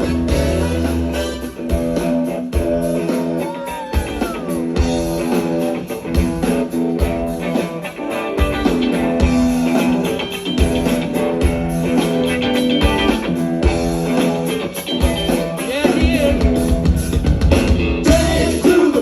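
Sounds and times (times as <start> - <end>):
bass: 0.0 - 19.0
electric guitar: 0.0 - 19.0.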